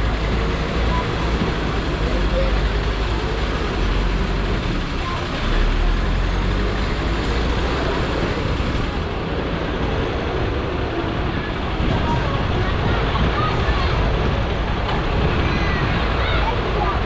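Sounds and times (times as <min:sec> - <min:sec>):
people's voices: 0:00.0 - 0:17.0
vehicle traffic rumble: 0:00.0 - 0:17.0.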